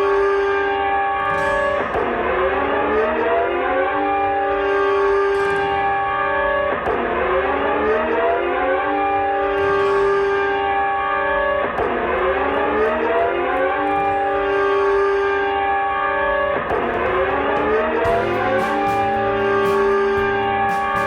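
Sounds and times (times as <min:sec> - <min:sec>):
siren warning tone: 0:00.0 - 0:21.0.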